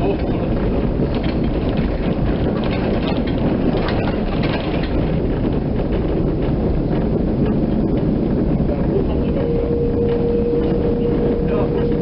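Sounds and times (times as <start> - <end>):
tram wheels and motor rumbling: 0.0 - 12.0.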